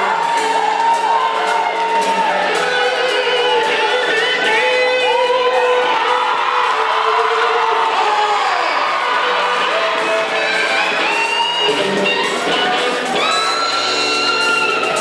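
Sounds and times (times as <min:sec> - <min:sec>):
audience whooping: 0:00.0 - 0:15.0
live band playing pop song: 0:00.0 - 0:15.0.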